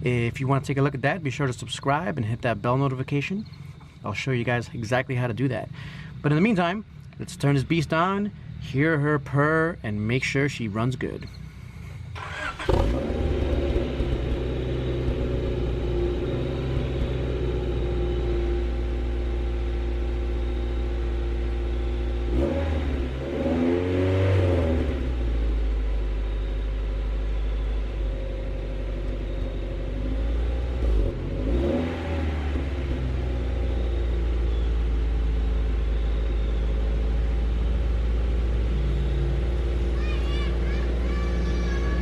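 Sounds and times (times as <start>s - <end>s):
car engine starting and idling: 0.0s - 42.0s.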